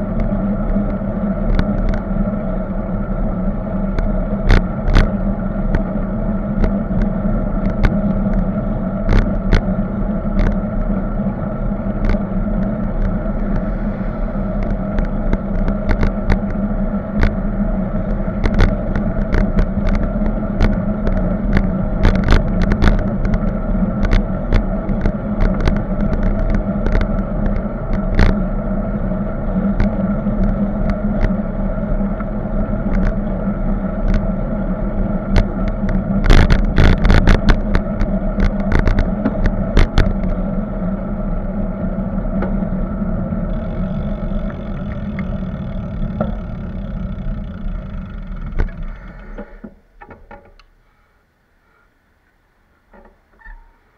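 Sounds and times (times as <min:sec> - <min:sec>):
bicycle clicks and rattles: 0:00.0 - 0:03.0, 0:03.7 - 0:13.7, 0:14.3 - 0:41.0, 0:42.2 - 0:50.8
car traffic: 0:00.0 - 0:53.9
wind and road rumble: 0:00.0 - 0:53.9.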